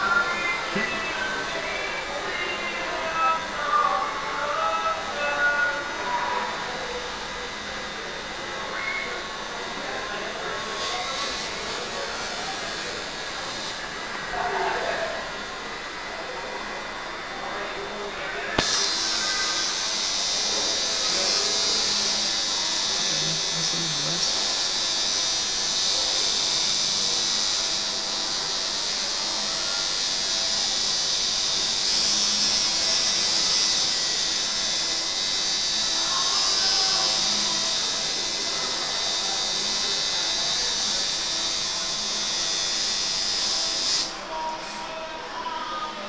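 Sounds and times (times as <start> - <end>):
tattoo machine buzzing: 0.0 - 18.0, 18.6 - 46.0.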